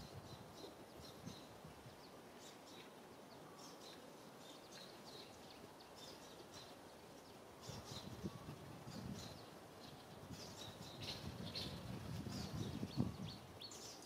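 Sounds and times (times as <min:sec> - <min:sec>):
faint steady hiss: 0:00.0 - 0:14.0
small birds chirping: 0:00.0 - 0:14.0.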